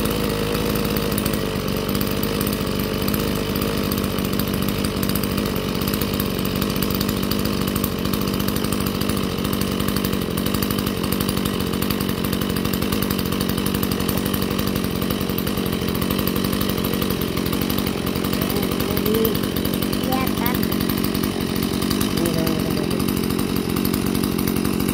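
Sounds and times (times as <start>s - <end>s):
chainsaw engine running: 0.0s - 24.9s.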